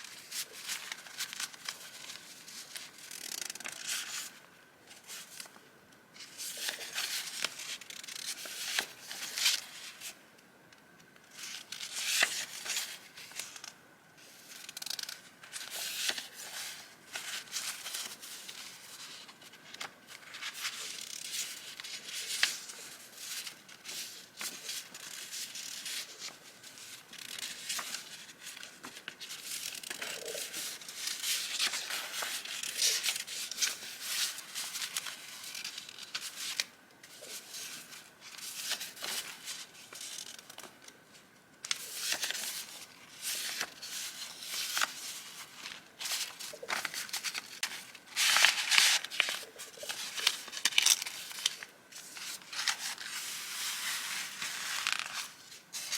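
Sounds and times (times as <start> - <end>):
paper rustling and crinkling: 0.0 - 5.5, 6.2 - 10.2, 11.3 - 40.8, 41.7 - 55.9.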